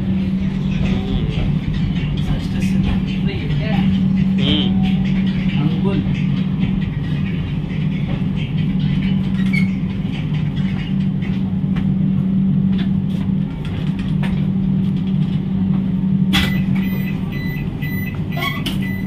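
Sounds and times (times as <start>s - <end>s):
train coach hum and rumble: 0.0s - 19.0s.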